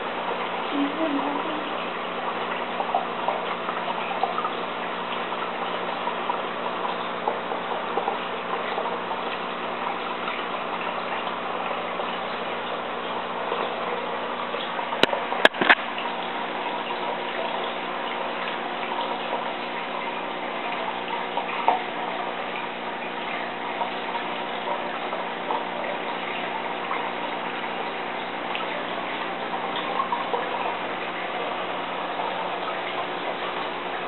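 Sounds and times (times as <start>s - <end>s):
water running: 0.0s - 34.0s.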